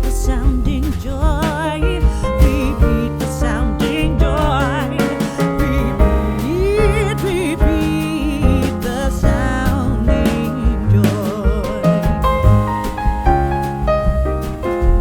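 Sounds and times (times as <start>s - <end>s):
person singing with vibrato: 0.0s - 12.7s
piano or keyboard: 0.0s - 15.0s
steady beat: 0.0s - 15.0s.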